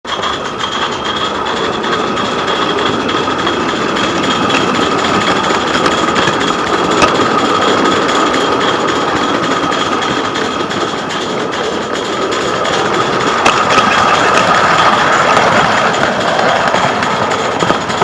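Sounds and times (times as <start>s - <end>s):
steam locomotive exhaust and hiss: 0.1s - 18.0s.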